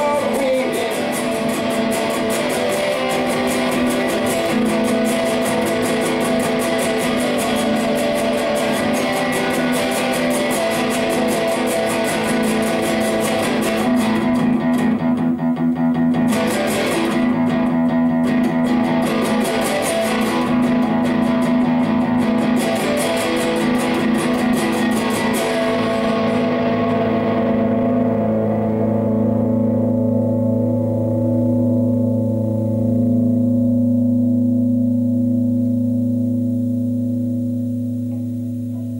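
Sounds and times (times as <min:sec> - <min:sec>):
loud electric guitar chords: 0:00.0 - 0:38.9.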